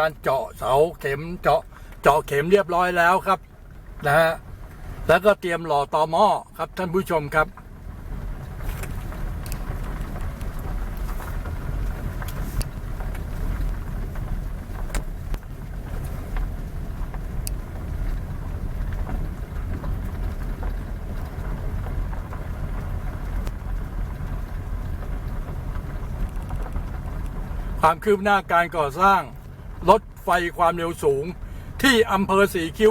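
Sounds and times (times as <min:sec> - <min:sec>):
vehicle engine rumble: 0:00.0 - 0:32.9.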